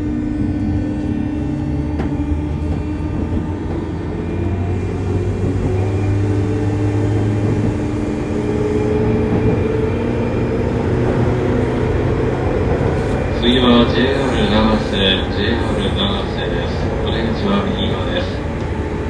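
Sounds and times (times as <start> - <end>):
traction motor hum: 0.0 - 19.0
wheels rumbling on rail: 0.0 - 19.0.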